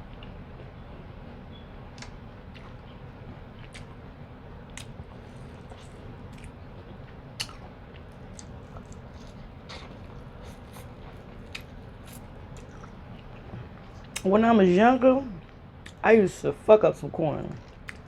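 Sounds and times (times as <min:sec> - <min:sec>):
chewing corn on the cob: 0:00.0 - 0:14.3, 0:17.4 - 0:18.0.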